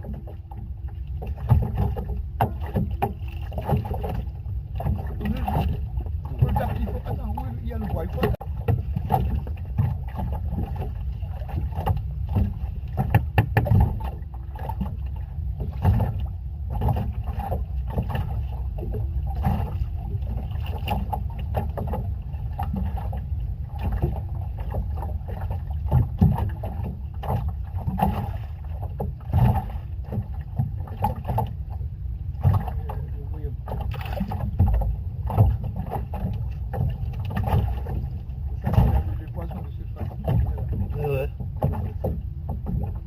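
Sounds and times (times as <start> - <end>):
water slapping against hull: 0.0 - 43.0
wind rumble on microphone: 0.0 - 43.0.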